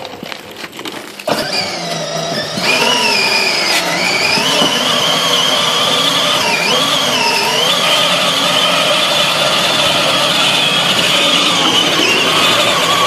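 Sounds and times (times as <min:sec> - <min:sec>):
electric toy car motor whining: 0:00.1 - 0:13.0.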